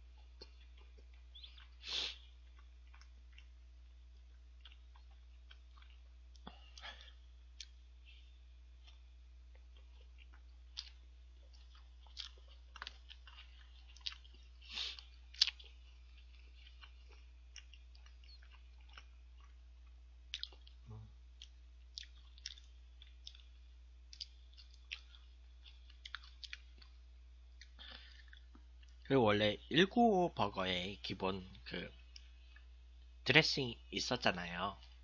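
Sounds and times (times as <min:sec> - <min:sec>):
person chewing food: 0:00.0 - 0:29.1, 0:31.9 - 0:33.2.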